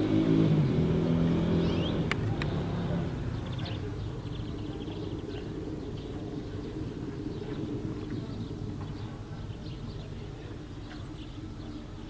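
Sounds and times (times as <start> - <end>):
low engine hum: 0.0 - 12.0
small birds chirping: 0.0 - 12.0.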